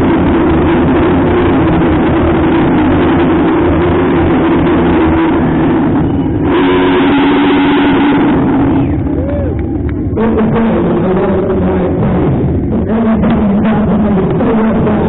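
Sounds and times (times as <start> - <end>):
vehicle engine running loudly: 0.0 - 15.0.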